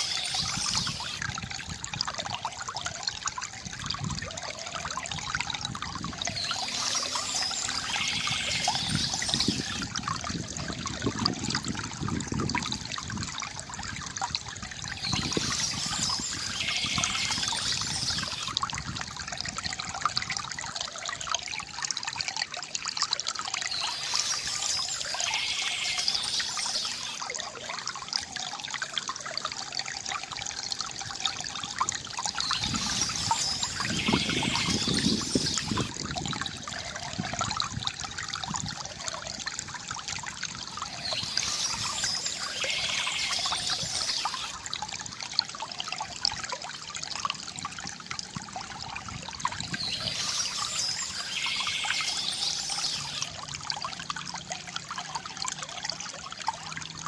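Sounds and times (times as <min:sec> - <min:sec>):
water trickling from bamboo fountain: 0:00.0 - 0:57.0.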